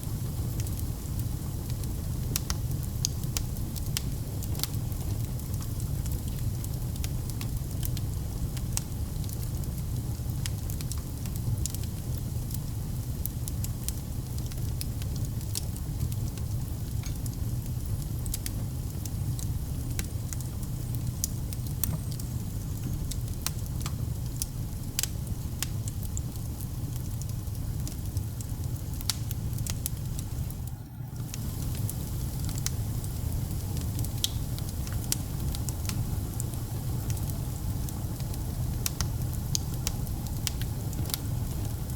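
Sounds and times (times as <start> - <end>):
fire crackling and popping: 0.0 - 41.9
fire rumbling: 0.0 - 41.9.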